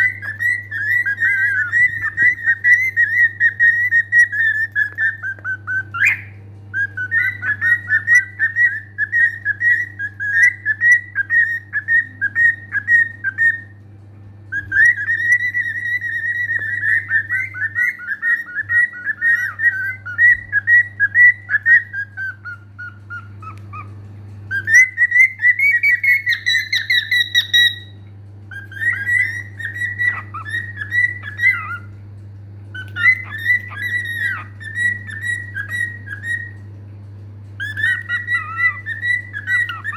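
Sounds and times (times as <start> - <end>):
cockatiel whistling and warbling: 0.0 - 13.7, 14.5 - 31.9, 32.7 - 36.7, 37.6 - 39.9
steady low hum: 0.0 - 39.9.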